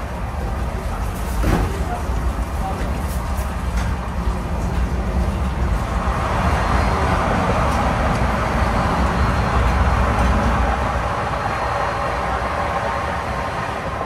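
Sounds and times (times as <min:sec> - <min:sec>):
train running noise inside coach: 0:00.0 - 0:14.0.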